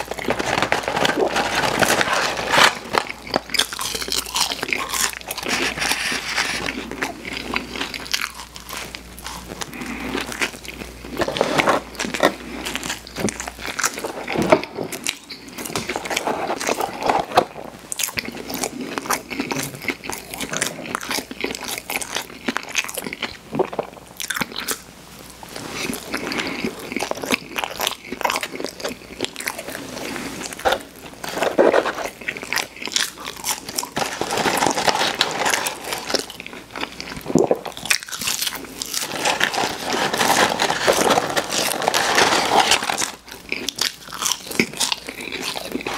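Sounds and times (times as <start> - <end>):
person chewing food: 0.0 - 24.8, 25.6 - 45.9.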